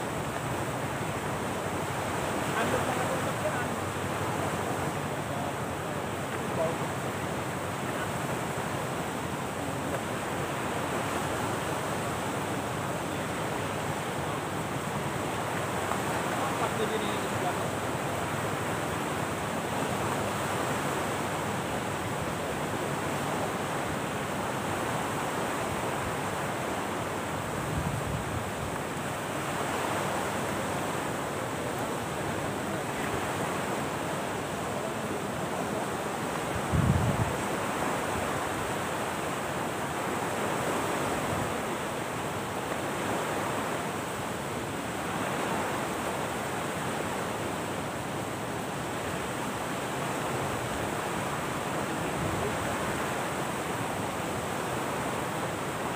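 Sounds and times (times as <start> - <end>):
sea surf on beach: 0.0 - 55.9
wind: 0.0 - 55.9.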